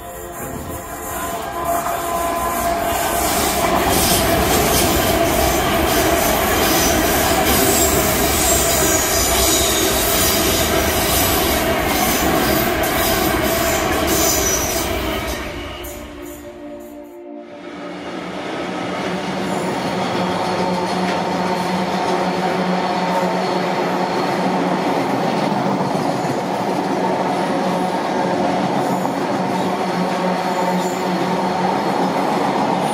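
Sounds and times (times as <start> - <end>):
clickety-clack of wheels on rails: 0.0 - 15.9, 19.0 - 32.9
train passing at speed: 0.0 - 32.9.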